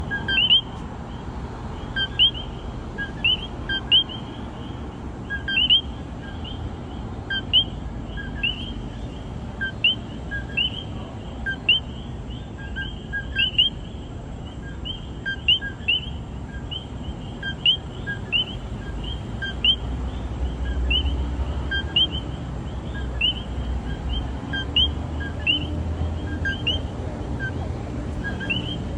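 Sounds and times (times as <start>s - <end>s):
tree frogs calling: 0.0s - 28.9s.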